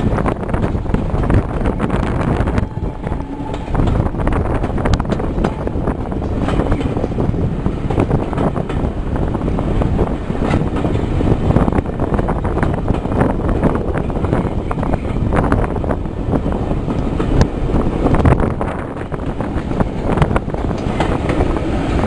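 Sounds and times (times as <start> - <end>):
train running noise: 0.0 - 22.0
wind buffeting microphone: 0.0 - 22.0.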